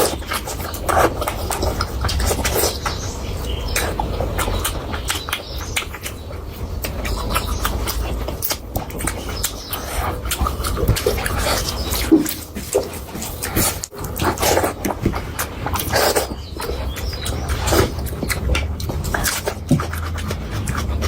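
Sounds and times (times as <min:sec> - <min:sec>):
wet chewing and mouth smacks: 0:00.0 - 0:21.0.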